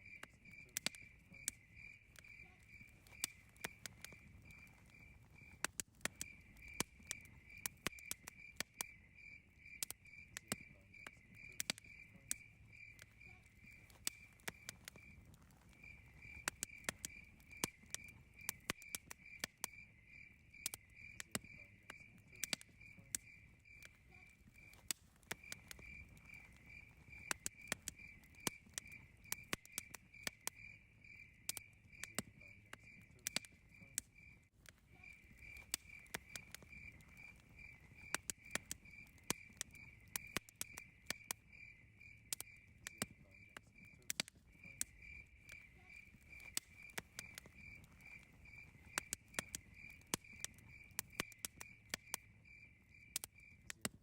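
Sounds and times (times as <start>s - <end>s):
campfire crackling and popping: 0.0s - 54.0s
crickets chirping: 0.0s - 54.0s.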